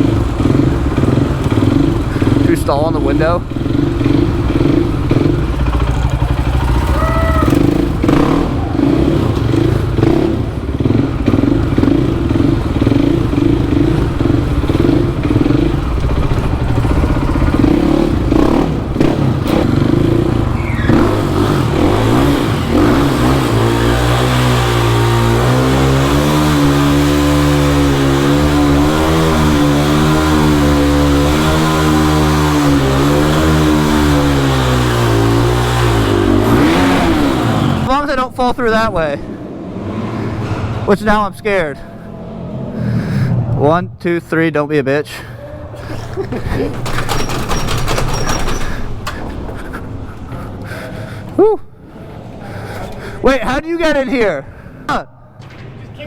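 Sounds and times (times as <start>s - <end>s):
motorcycle idling: 0.0s - 39.7s, 45.8s - 51.4s
motorcycle engines revving: 0.0s - 44.0s, 45.1s - 54.9s.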